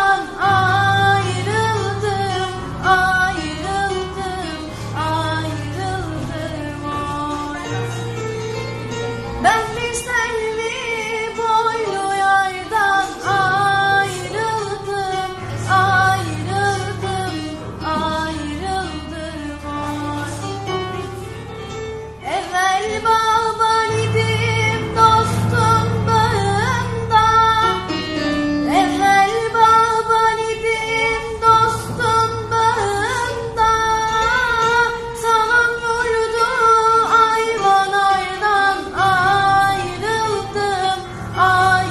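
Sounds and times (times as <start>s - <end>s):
low steady accompaniment: 0.0s - 41.9s.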